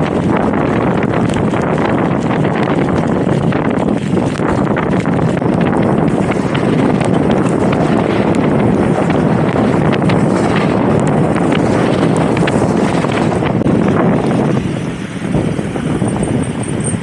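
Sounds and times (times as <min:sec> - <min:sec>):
hail and rain ticking: 0:00.0 - 0:14.4
wind buffeting microphone: 0:00.0 - 0:17.0.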